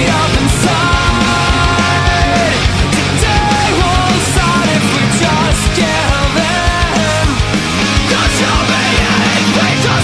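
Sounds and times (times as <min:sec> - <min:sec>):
fast drum beat: 0:00.0 - 0:10.0
heavy rock music: 0:00.0 - 0:10.0.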